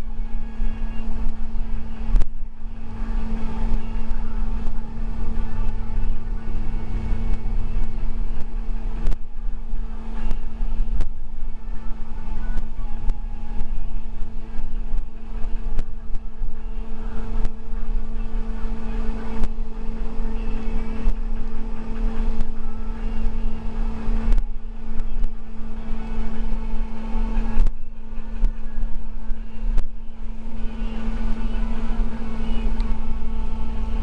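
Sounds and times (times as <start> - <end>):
bus engine and road rumble: 0.0 - 34.0.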